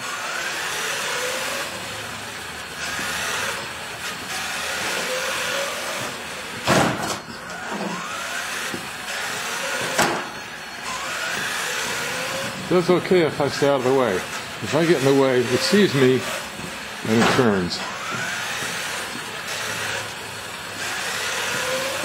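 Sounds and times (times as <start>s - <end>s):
rc car motor whining: 0.0s - 22.0s.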